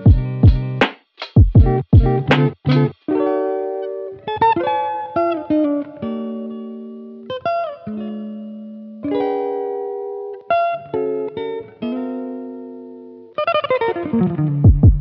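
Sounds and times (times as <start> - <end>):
guitar chords ringing: 0.0 - 0.8, 1.5 - 15.0.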